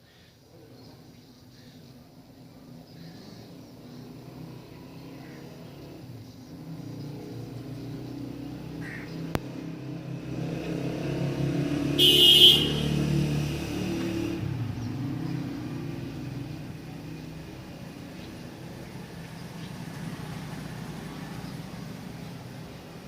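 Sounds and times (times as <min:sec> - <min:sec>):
vehicle engine passing by: 0:02.6 - 0:23.0.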